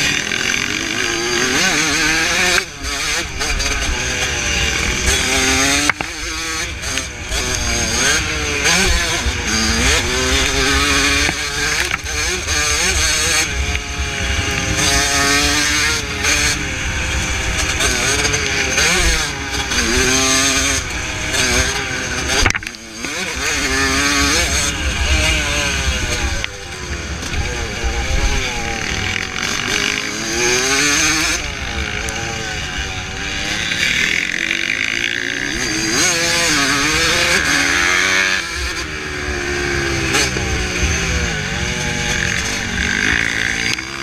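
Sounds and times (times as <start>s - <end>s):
motocross engine revving: 0.0s - 44.0s.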